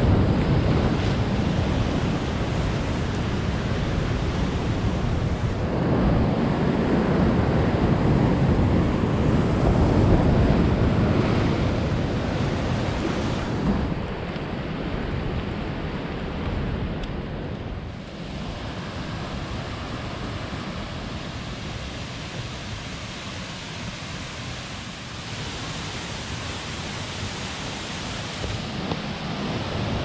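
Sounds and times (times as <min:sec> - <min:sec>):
surf washing over rocky shore: 0:00.0 - 0:30.0
wind rumbling on microphone: 0:00.0 - 0:30.0.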